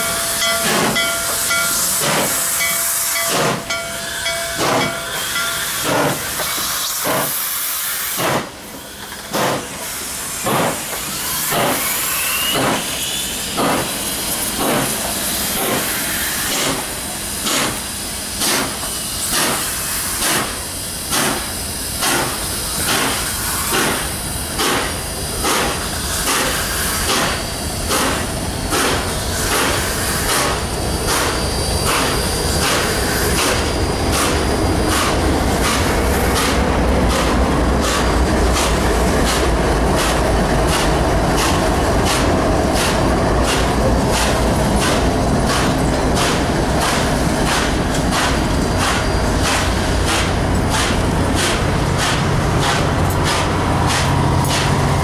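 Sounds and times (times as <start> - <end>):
diesel locomotive rumble: 0.0 - 55.0
steam hiss: 0.0 - 55.0
steam locomotive exhaust chuffs: 0.0 - 55.0.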